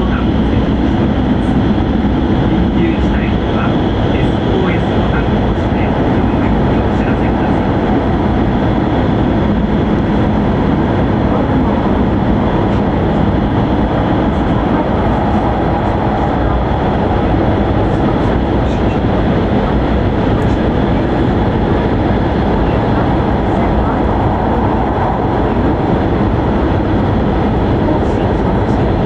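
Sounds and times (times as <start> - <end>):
train cabin rumble and hiss: 0.0 - 29.0.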